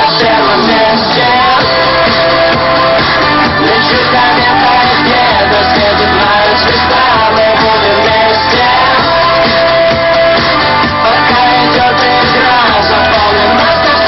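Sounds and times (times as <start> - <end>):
rock song with guitar and vocals: 0.0 - 14.0.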